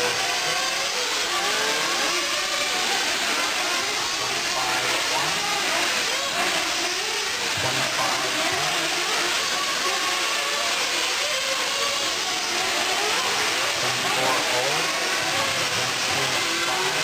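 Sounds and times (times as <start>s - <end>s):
rc car engines buzzing: 0.0s - 17.0s.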